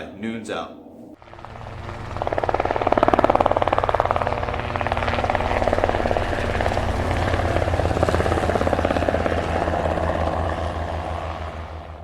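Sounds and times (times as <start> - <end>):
model airplane propeller buzzing: 1.2 - 12.0.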